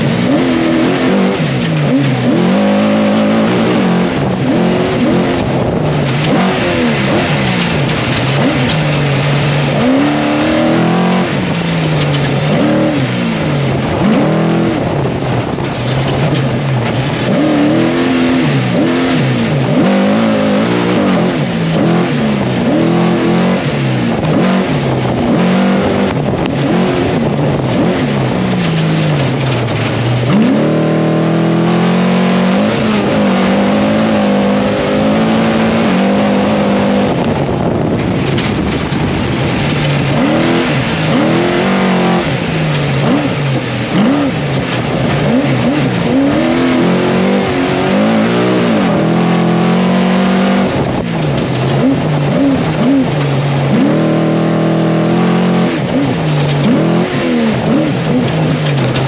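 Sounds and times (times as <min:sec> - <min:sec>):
race engine revving: 0:00.0 - 0:59.0.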